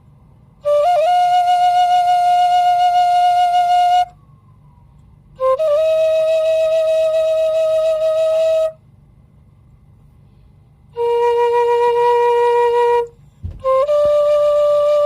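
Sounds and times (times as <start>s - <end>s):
slow flute melody: 0.5s - 8.8s, 10.9s - 15.0s.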